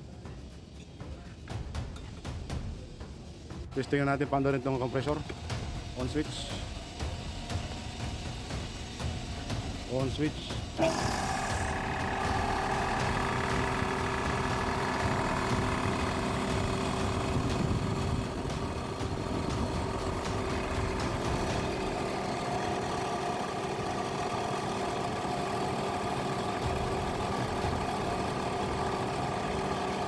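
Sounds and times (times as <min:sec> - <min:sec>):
piston air compressor running: 0:04.6 - 0:30.0.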